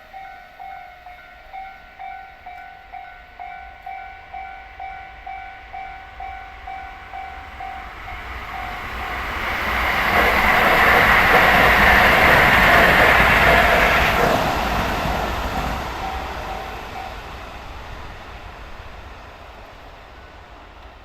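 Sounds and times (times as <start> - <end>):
level-crossing warning bell: 0.0 - 17.4
electric train passing: 0.0 - 21.0.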